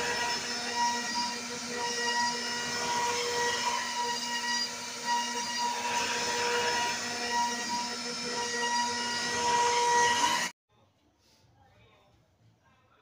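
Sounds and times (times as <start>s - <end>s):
router spindle whining while cutting: 0.0s - 10.5s.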